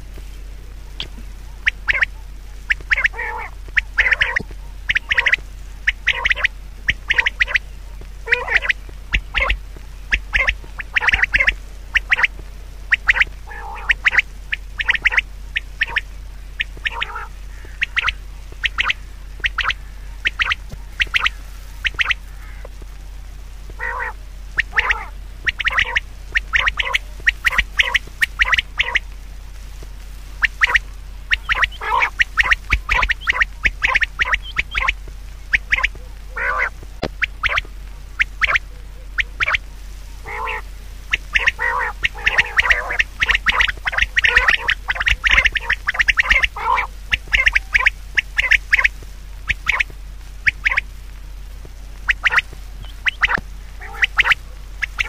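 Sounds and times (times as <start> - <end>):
steady low hum: 0.0 - 55.0
short harsh animal calls: 1.0 - 12.3, 12.9 - 22.8, 23.8 - 29.1, 30.4 - 39.6, 40.2 - 48.9, 52.1 - 55.0.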